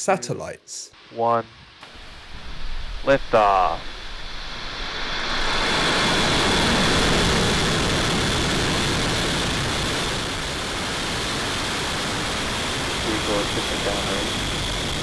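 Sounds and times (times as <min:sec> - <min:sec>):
rocket engines roaring: 0:01.2 - 0:15.0.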